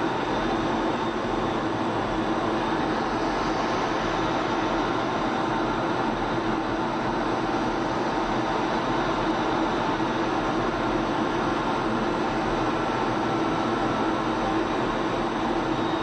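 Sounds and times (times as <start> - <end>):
jet cockpit engine drone: 0.0 - 16.0.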